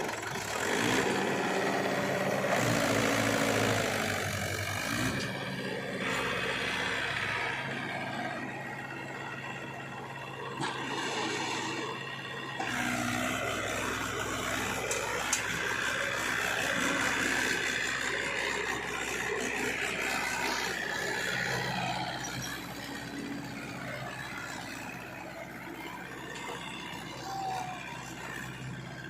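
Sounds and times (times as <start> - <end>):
diesel engine under load: 0.0 - 29.0.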